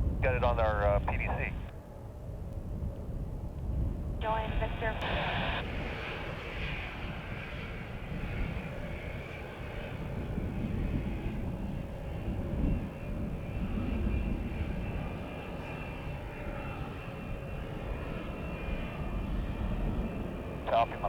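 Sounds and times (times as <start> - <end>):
wind buffeting microphone: 0.0 - 20.8
jet engines whining and rumbling: 0.0 - 21.0.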